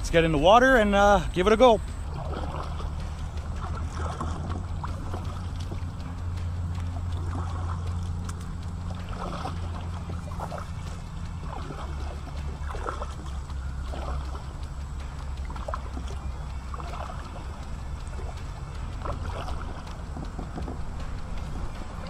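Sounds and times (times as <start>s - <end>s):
paddle strokes in water: 0.0s - 22.0s
steady low hum: 0.0s - 22.0s.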